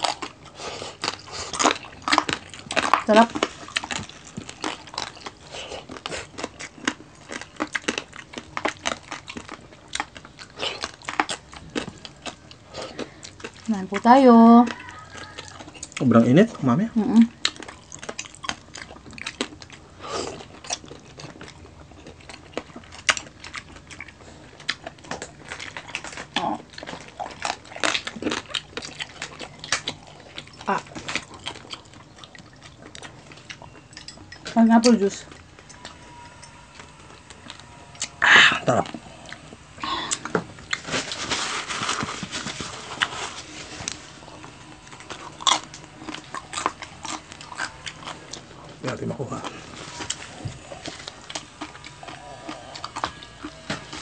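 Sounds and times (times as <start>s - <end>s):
chewing crunchy pork skin: 0.0s - 54.0s.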